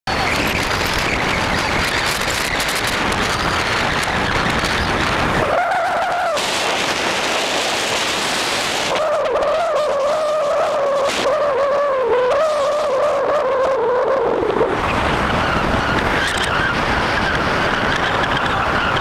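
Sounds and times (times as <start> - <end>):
car road and wind noise: 0.1 - 19.0.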